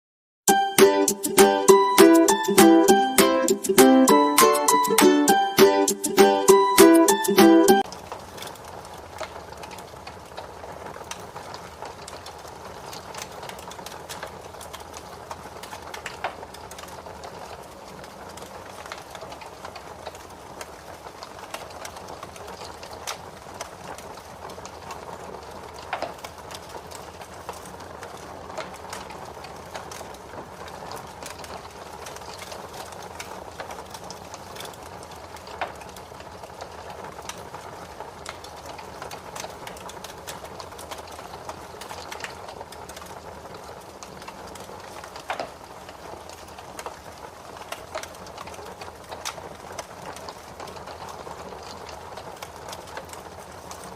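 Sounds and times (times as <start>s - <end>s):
wood fire crackling and popping: 0.5s - 53.9s.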